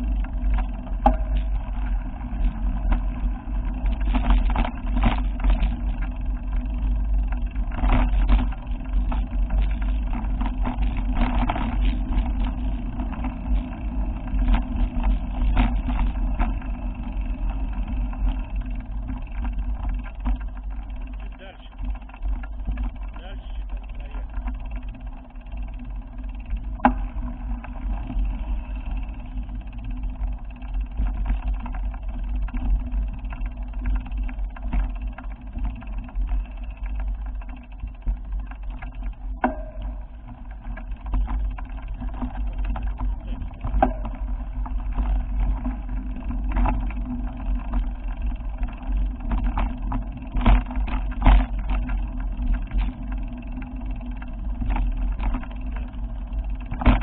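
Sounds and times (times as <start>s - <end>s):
knocks and rattles: 0.0s - 28.8s, 29.5s - 57.0s
vehicle rumbling: 0.0s - 57.0s.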